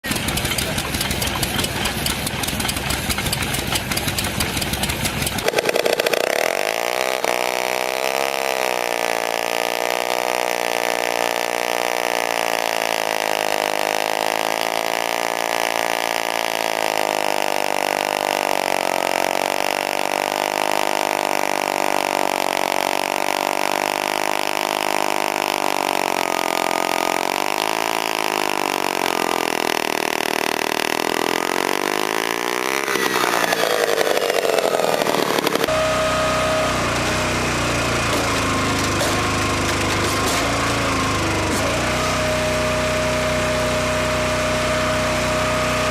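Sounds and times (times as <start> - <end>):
machine engine running: 0.0 - 45.9.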